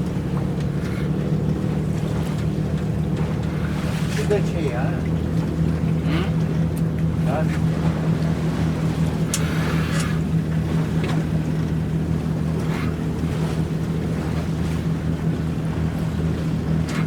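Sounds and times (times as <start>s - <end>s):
boat engine humming: 0.0s - 17.0s
water splashing: 0.0s - 17.0s.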